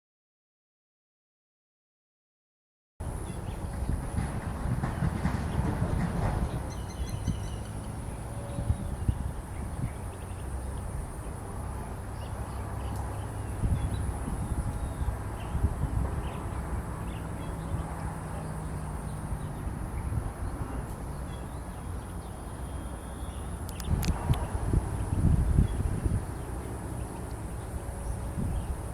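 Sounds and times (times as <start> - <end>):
insect whine: 3.0 - 28.9.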